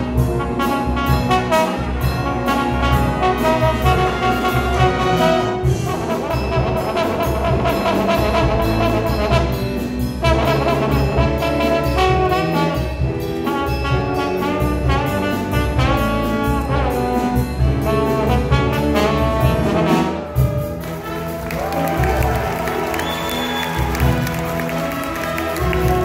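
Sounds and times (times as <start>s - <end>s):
jazz big band playing: 0.0s - 26.0s
trombone and trumpets: 0.0s - 26.0s.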